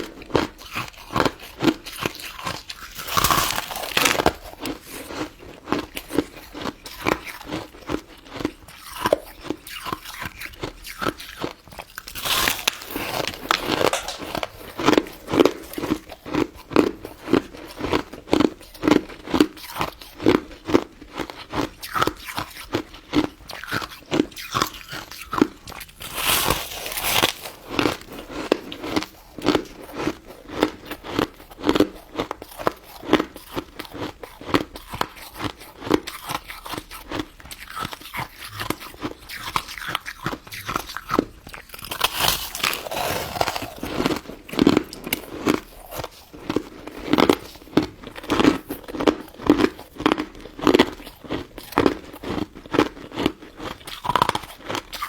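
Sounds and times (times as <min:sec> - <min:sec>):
crunching and chewing ice dessert: 0:00.0 - 0:55.0.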